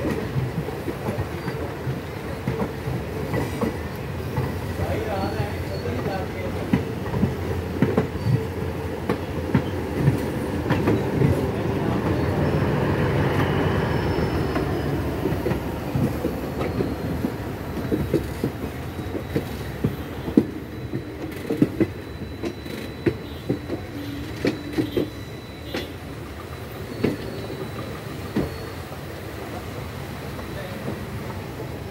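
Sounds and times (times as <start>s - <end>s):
train wheels clicking over rail joints: 0.0s - 12.2s, 14.5s - 28.9s
train running rumble: 0.0s - 31.9s.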